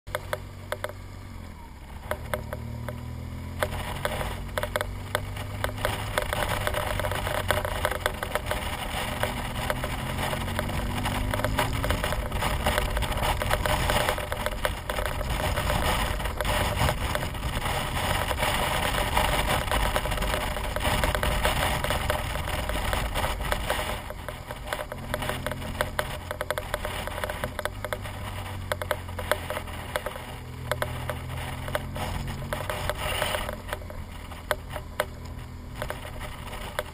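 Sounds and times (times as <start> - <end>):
motorcycle engine running: 0.1 - 36.9
wind buffeting on microphone: 2.0 - 36.9.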